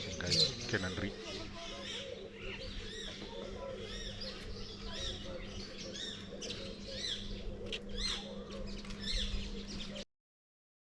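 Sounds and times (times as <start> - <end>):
birds chirping: 0.0 - 10.1.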